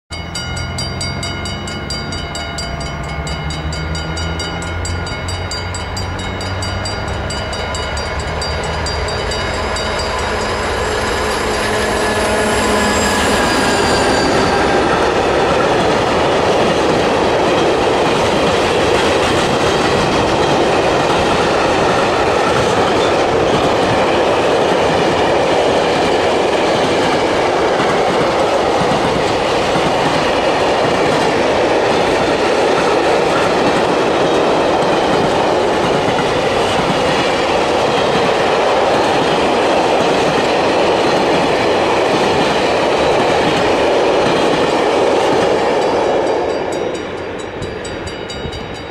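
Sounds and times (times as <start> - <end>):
diesel locomotive engine droning: 0.1 - 48.9
freight wagons rumbling on rails: 0.1 - 48.9.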